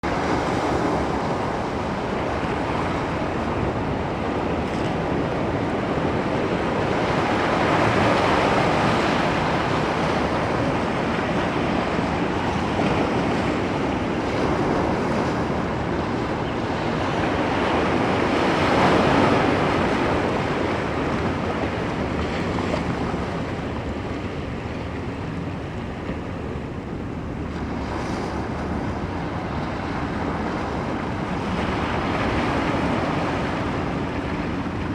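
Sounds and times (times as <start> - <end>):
ocean waves breaking: 0.0 - 34.9.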